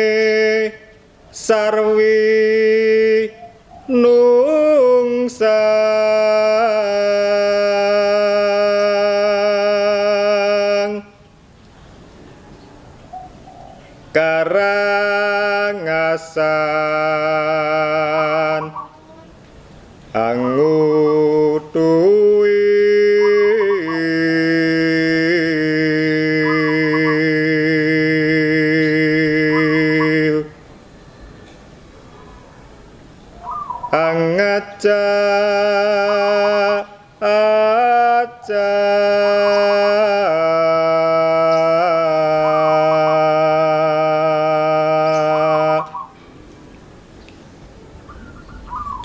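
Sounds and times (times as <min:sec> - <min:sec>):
man singing long held notes: 0:00.0 - 0:11.4, 0:14.0 - 0:19.2, 0:20.1 - 0:30.8, 0:33.9 - 0:46.2.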